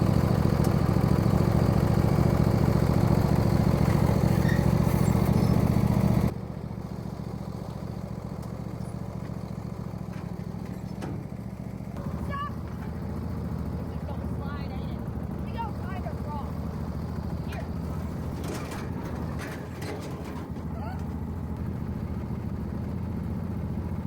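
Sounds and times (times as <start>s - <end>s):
lawn tractor engine running: 0.0s - 24.0s.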